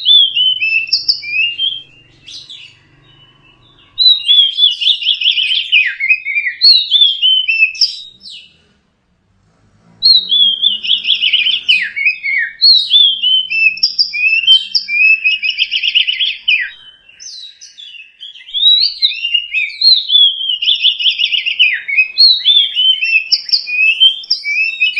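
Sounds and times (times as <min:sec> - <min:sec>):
bird singing whistled phrases: 0:00.0 - 0:08.5, 0:10.0 - 0:24.9.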